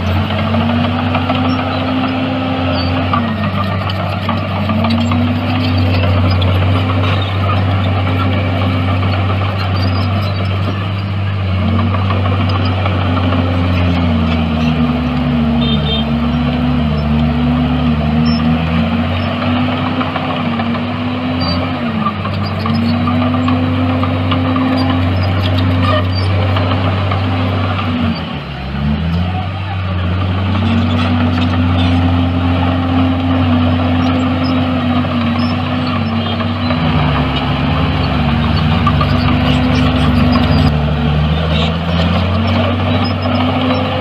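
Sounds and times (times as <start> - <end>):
second engine pitch dipping: 0.0 - 19.5, 21.3 - 44.0
heavy diesel machinery running: 0.0 - 44.0.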